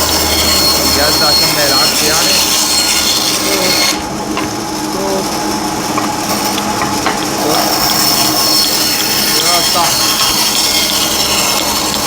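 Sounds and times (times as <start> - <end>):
tool scraping wood: 0.0 - 4.6, 5.9 - 12.0.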